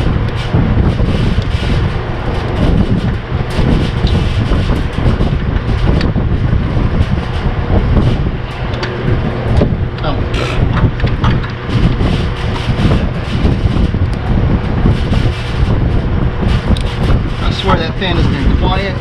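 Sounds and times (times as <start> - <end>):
mechanical rumble with low hum: 0.0 - 19.0.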